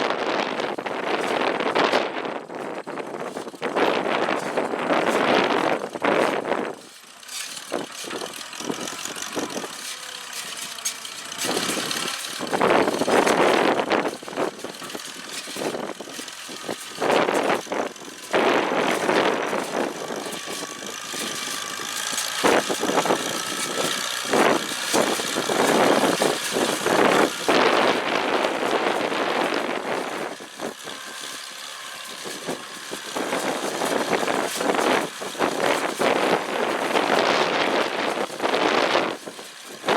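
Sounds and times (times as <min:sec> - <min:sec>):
hay baler clattering: 0:00.0 - 0:39.9.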